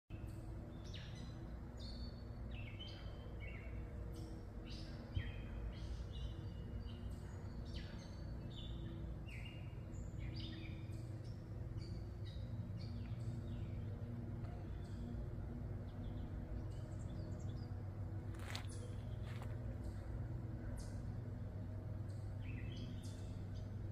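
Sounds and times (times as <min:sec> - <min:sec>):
low steady hum: 0:00.1 - 0:23.9
songbirds chirping: 0:00.1 - 0:23.9.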